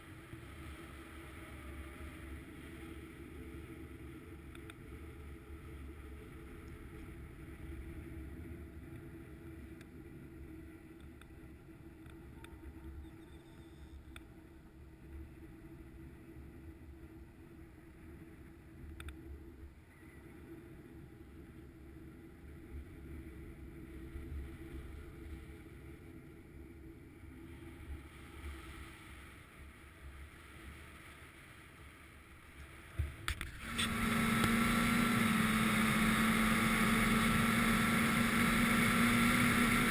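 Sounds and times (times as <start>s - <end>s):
snowmobile engine drone: 0.0s - 39.9s.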